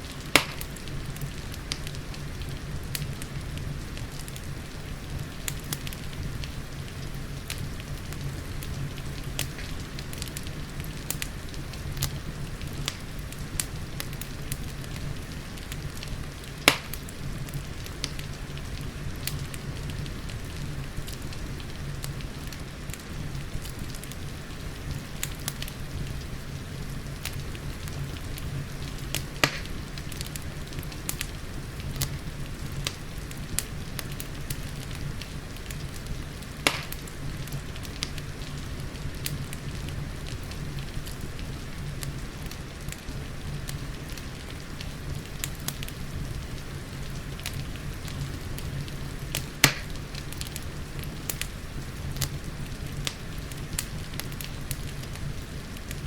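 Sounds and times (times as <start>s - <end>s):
rain hissing: 0.0s - 56.0s
wood fire crackling: 0.0s - 56.0s.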